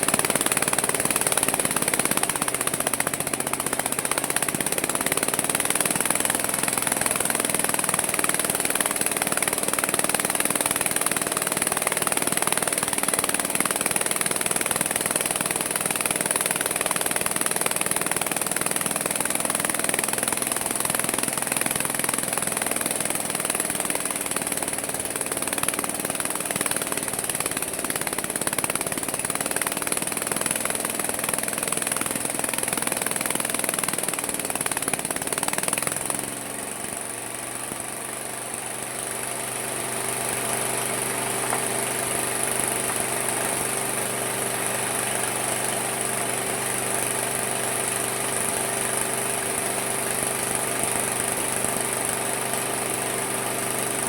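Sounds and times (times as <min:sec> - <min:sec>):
saw running with even hum: 0:00.0 - 0:54.0
sawmill cutting wood: 0:00.0 - 0:54.0.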